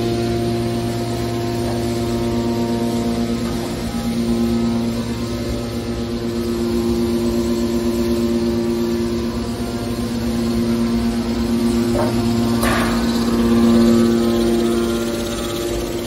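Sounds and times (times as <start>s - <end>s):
baler machine humming: 0.0s - 16.0s.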